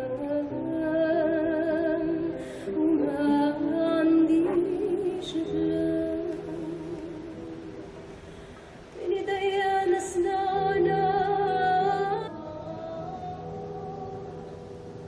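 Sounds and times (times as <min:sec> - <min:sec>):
woman singing with vibrato: 0:00.0 - 0:08.0, 0:09.0 - 0:15.0.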